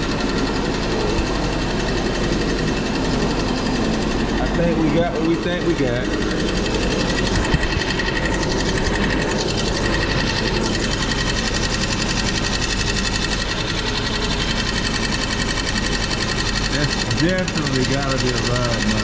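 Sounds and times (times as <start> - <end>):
car engine idling with ticking: 0.0 - 19.0.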